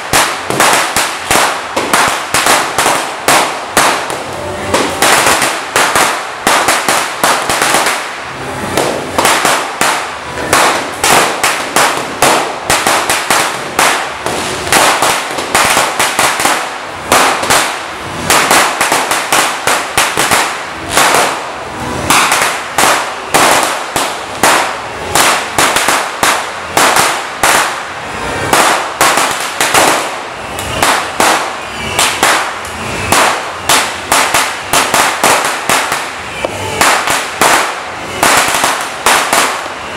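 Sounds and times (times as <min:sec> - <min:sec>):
string of firecrackers crackling: 0:00.0 - 0:39.9.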